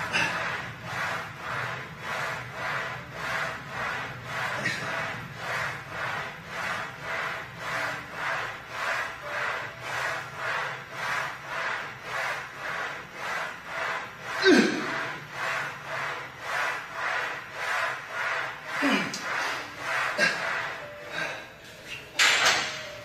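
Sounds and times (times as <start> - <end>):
rhythmic rasping strokes: 0.0 - 23.0.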